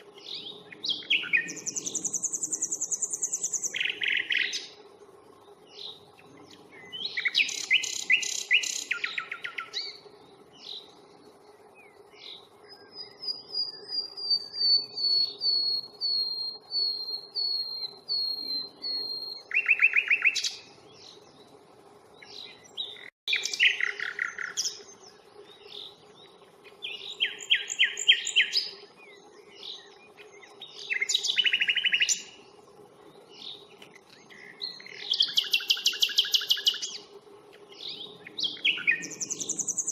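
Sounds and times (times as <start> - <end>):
nightingale singing: 0.0 - 4.8, 5.4 - 32.5, 33.1 - 39.9.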